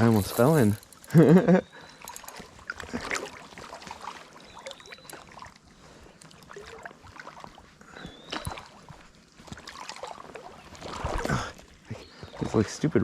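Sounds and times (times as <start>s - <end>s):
water sloshing and splashing: 0.0s - 1.2s, 1.8s - 13.0s.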